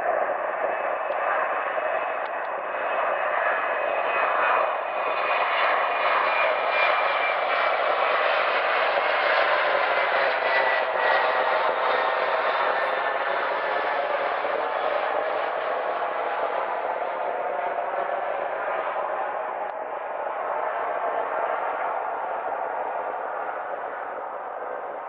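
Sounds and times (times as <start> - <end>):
jet engines at high power: 0.0 - 25.0.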